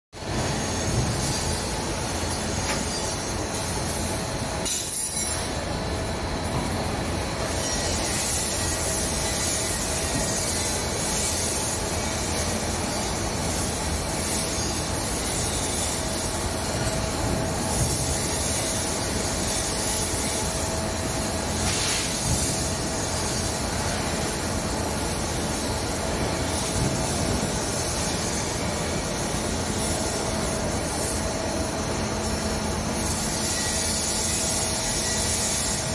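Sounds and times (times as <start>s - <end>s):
mid-pitched machine whine: 0.2s - 35.9s
rotary machine working metal: 0.2s - 35.9s.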